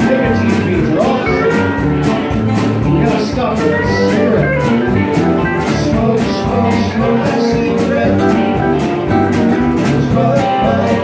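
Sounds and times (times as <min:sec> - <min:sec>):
person singing: 0:00.0 - 0:08.7, 0:09.8 - 0:11.0
acoustic guitar strumming: 0:00.0 - 0:11.0.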